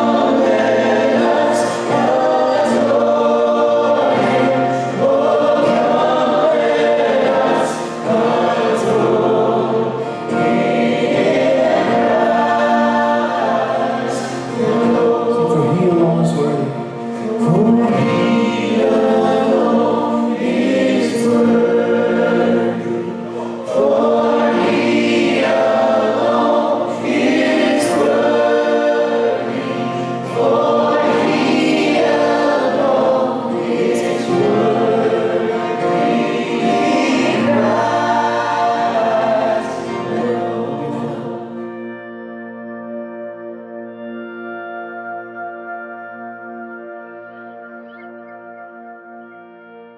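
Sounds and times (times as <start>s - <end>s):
choir singing a hymn: 0.0s - 42.6s.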